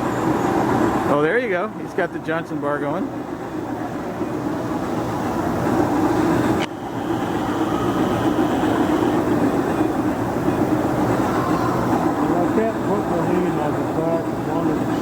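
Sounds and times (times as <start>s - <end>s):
model steam locomotive running: 0.0s - 15.0s.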